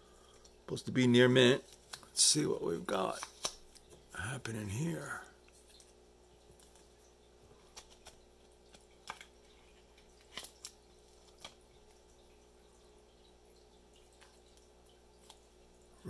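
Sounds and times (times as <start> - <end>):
quiet steady hum: 0.0 - 16.0.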